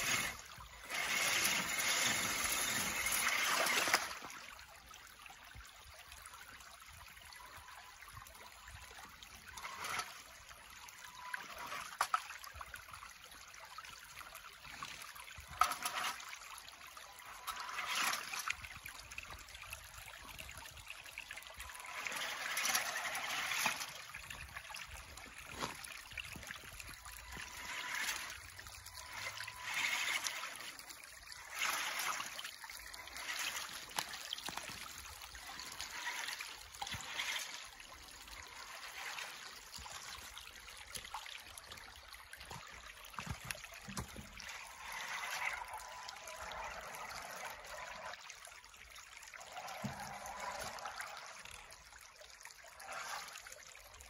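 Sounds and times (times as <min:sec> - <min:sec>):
creek water trickling and splashing: 0:00.0 - 0:54.0.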